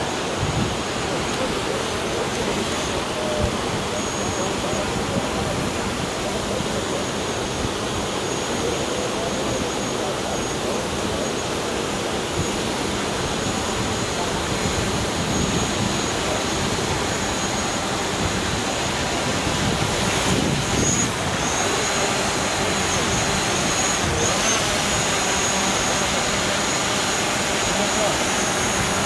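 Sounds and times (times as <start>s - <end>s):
drone propellers whining: 0.0s - 29.0s
river rapids rushing: 0.0s - 29.0s.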